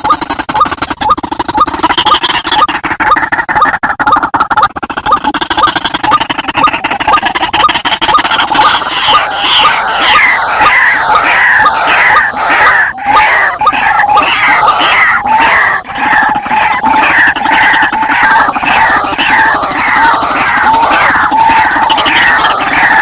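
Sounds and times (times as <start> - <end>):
waterhens calling: 0.0 - 23.0.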